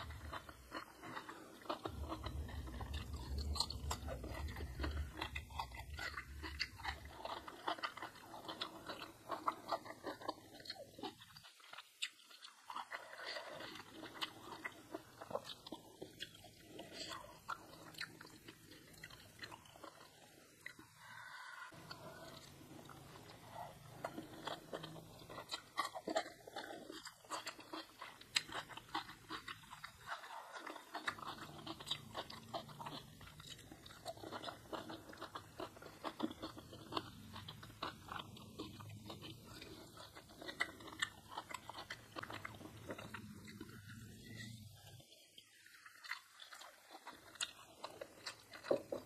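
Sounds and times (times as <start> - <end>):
person chewing and crunching: 0.0 - 49.0.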